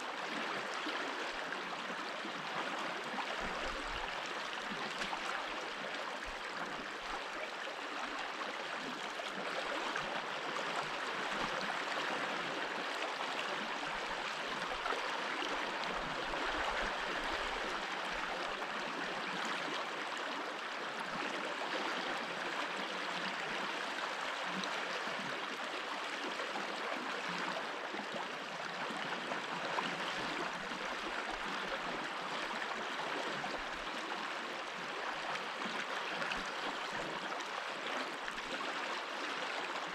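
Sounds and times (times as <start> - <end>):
stream water babbling over stones: 0.1 - 39.9.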